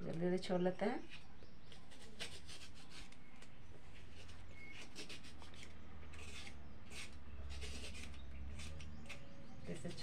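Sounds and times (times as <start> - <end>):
knife scraping gourd skin: 1.0 - 10.0.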